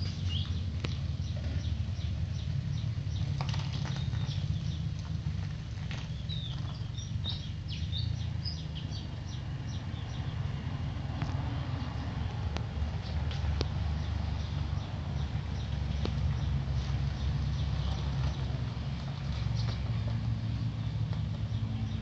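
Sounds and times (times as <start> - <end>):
low engine-like hum: 0.0 - 22.0
small birds chirping: 0.0 - 22.0.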